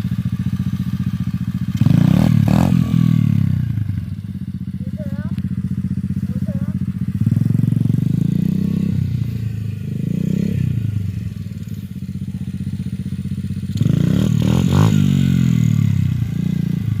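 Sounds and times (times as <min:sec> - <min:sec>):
dirt bike engine revving: 0:01.6 - 0:04.2, 0:06.0 - 0:17.0.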